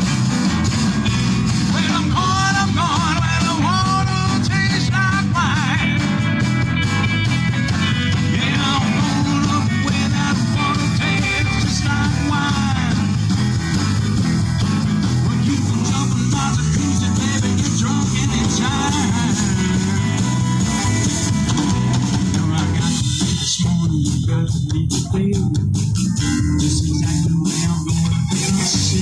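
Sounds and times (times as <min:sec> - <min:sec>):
lead guitar bent notes: 0:00.0 - 0:29.0
rock and roll band playing: 0:00.0 - 0:29.0.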